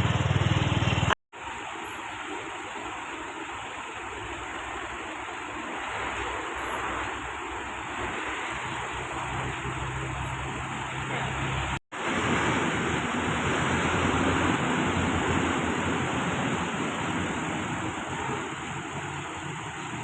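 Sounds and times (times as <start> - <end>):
diesel truck engine hum: 0.0 - 1.7, 4.3 - 20.0
road and wind noise: 0.0 - 20.0.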